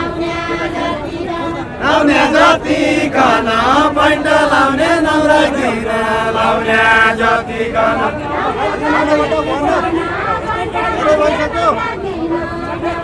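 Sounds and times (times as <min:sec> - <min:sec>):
group singing unaccompanied: 0:00.0 - 0:13.0.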